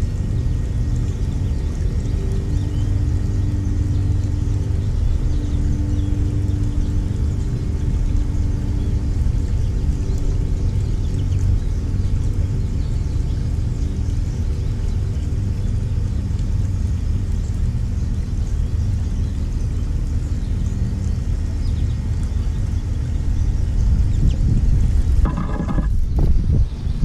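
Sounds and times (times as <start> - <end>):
faint hum: 0.0 - 27.0
low engine rumble: 0.0 - 27.0.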